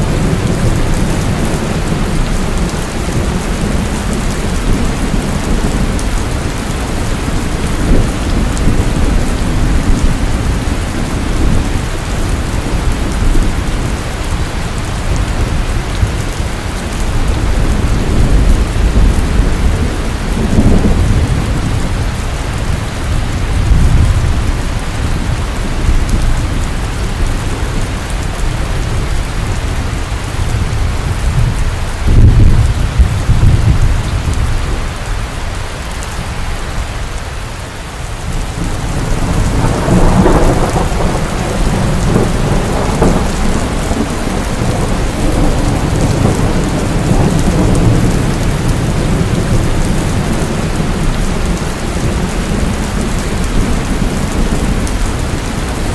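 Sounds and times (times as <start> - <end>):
rolling thunder: 0.0 - 35.1, 38.2 - 55.9
heavy rain: 0.0 - 55.9.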